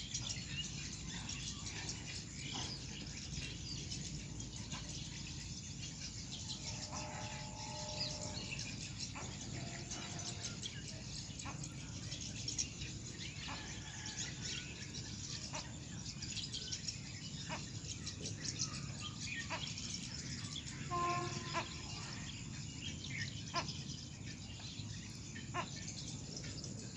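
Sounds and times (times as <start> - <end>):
water birds chirping: 0.0 - 26.9.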